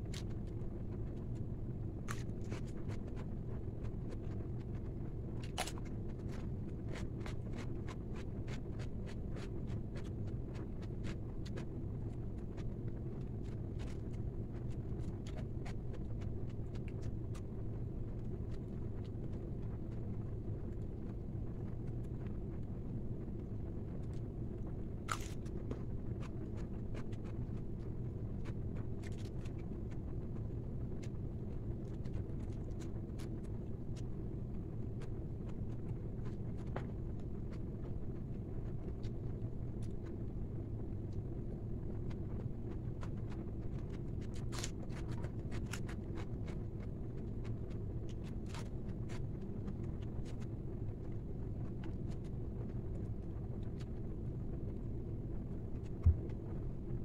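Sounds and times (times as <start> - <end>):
low background rumble: 0.0 - 57.0.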